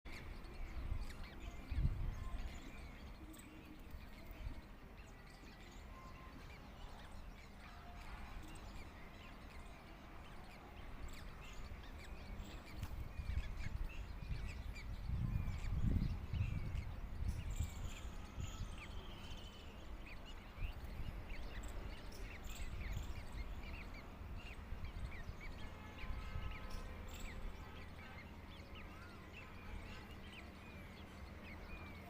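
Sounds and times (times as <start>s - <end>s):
birds chirping faintly: 0.0s - 32.0s.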